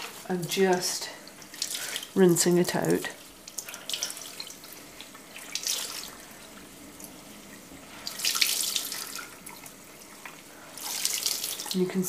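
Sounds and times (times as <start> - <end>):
tap water running into a sink: 0.0 - 11.9
water splashes: 0.0 - 11.9.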